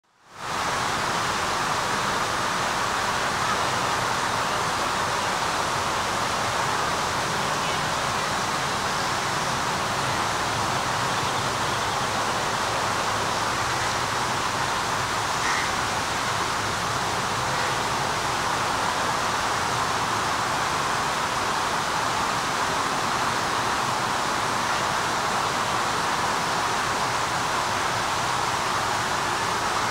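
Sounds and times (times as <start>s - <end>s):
water rushing down stone cascade: 0.2s - 29.9s.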